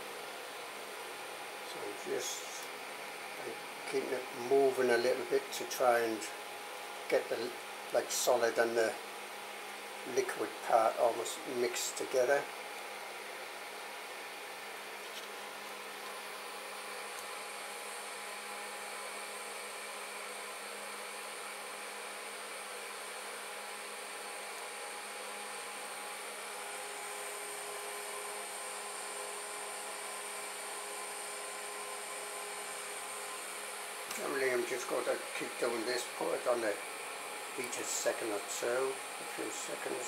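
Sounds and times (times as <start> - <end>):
electric fan motor whirring: 0.0 - 40.0.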